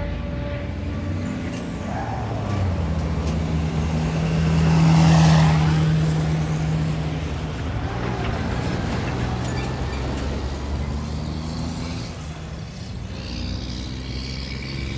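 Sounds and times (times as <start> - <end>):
freight train diesel engine drone: 0.0 - 14.9.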